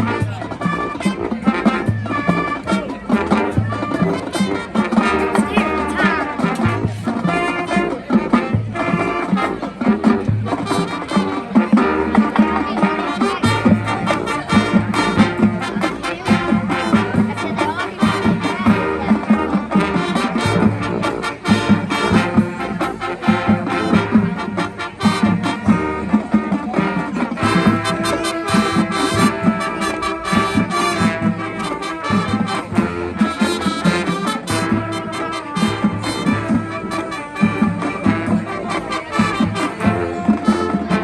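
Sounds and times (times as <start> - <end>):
brass section playing a tune: 0.0 - 41.0.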